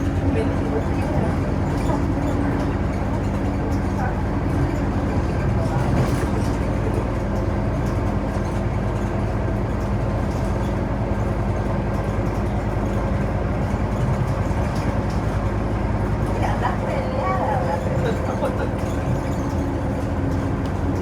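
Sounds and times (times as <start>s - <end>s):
bus engine hum: 0.0s - 21.0s
road noise: 0.0s - 21.0s.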